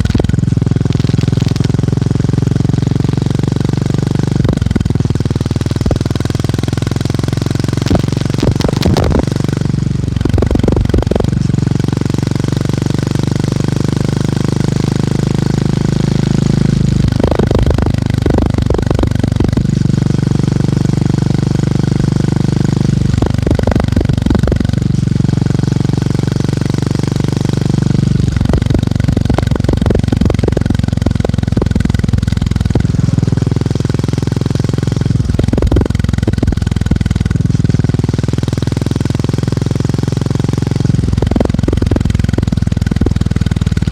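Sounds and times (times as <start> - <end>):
motorcycle engine thumping: 0.0 - 43.9.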